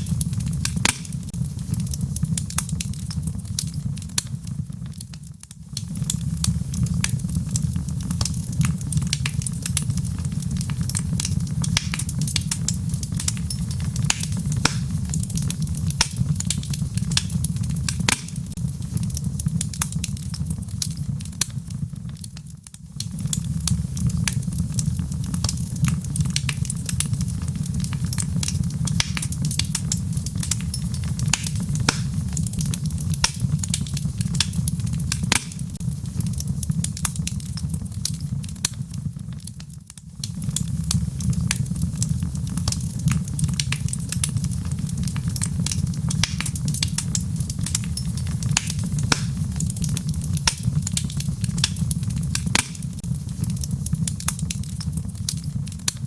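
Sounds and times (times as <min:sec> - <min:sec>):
logs crackling in a fireplace: 0:00.0 - 0:56.0.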